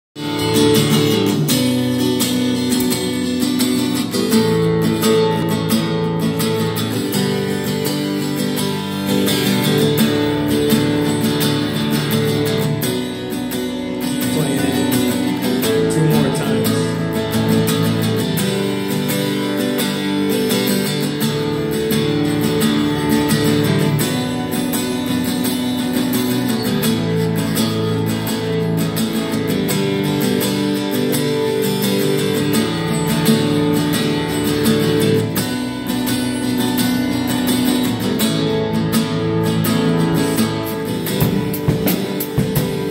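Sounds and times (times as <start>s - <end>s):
acoustic guitar strumming: 0.2s - 42.9s
keyboard chords: 0.3s - 42.9s.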